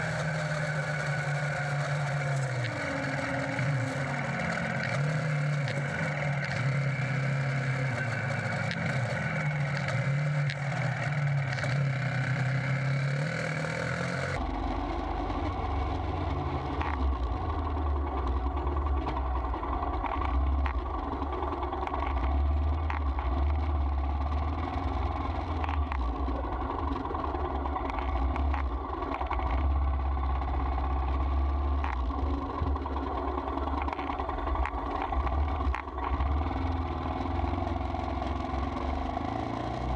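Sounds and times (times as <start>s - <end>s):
deep low engine rumble: 0.0s - 39.9s
motorcycle engine running: 0.0s - 39.9s
road and wind noise: 0.0s - 39.9s.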